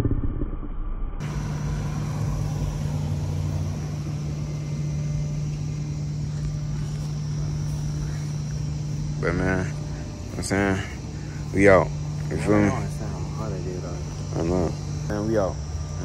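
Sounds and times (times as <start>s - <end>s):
steady mechanical hum: 1.2s - 16.0s.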